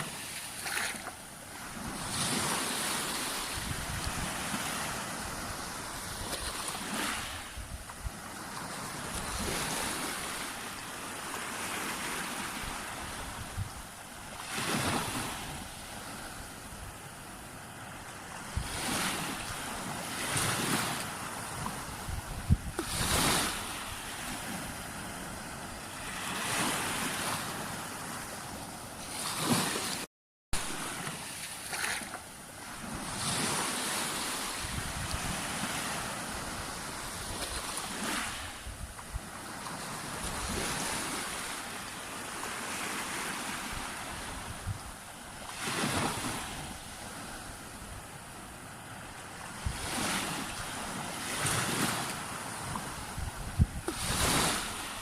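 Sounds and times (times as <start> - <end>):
sea waves breaking on beach: 0.0 - 55.0.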